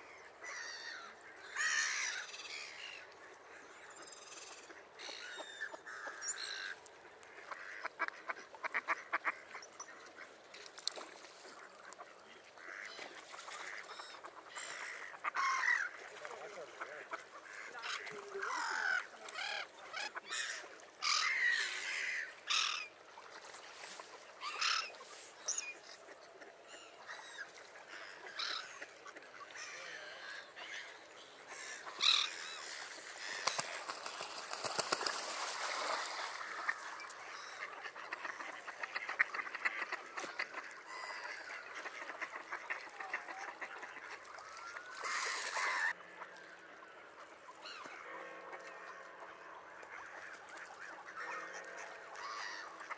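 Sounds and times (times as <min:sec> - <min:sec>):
water birds calling: 0:00.0 - 0:52.9
ducks quacking: 0:04.5 - 0:10.4, 0:11.3 - 0:52.9.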